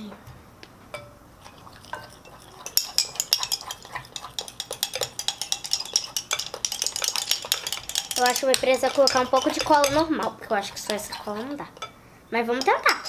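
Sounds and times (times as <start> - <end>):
spoon clinking on glass bowl: 1.0 - 12.0.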